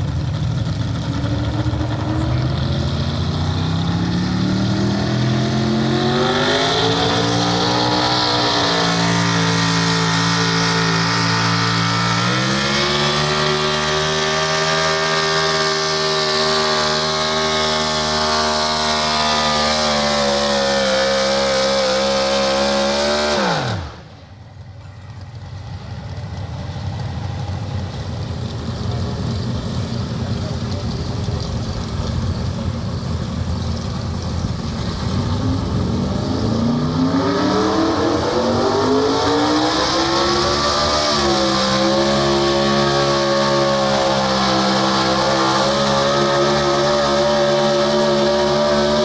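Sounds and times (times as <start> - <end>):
truck engine at full throttle: 0.0 - 49.0.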